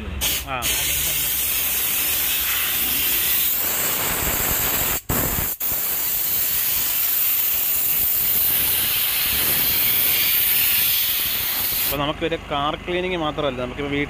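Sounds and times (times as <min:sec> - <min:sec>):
steam gun hissing: 0:00.2 - 0:12.0.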